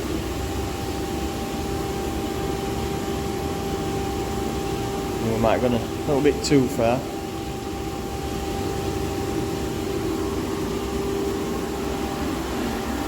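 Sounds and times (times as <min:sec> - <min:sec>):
boiler burner roaring: 0:00.0 - 0:13.0.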